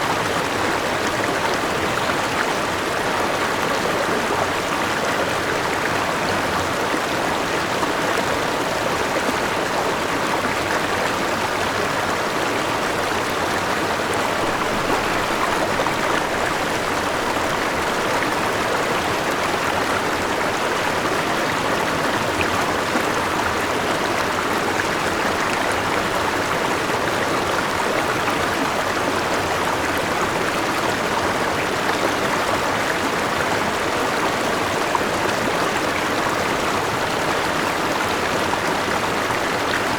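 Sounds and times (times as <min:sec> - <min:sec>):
small waterfall: 0:00.0 - 0:39.9.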